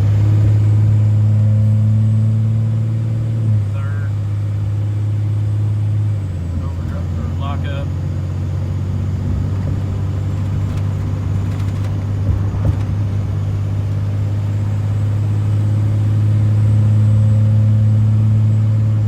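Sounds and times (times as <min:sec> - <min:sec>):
truck engine droning inside cab: 0:00.0 - 0:19.0.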